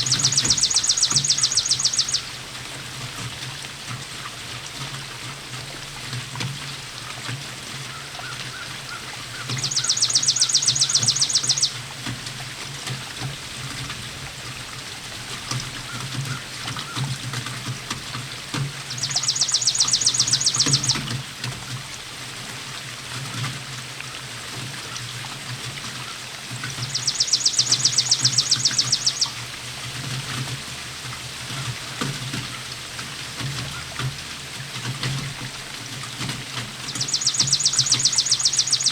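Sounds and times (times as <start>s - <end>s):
rain pattering and trickling: 0.0s - 38.9s.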